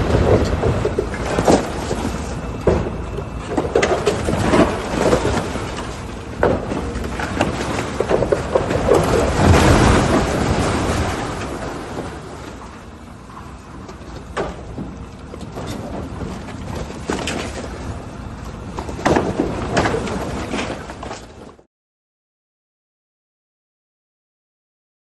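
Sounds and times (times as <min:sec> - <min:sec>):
debris crashing and falling: 0:00.0 - 0:21.6
continuous demolition rumble: 0:00.0 - 0:21.7.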